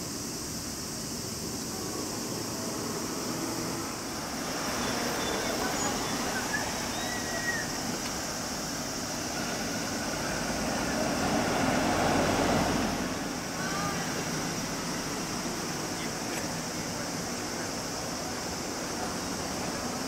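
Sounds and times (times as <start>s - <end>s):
cars and vans passing: 0.0s - 20.0s.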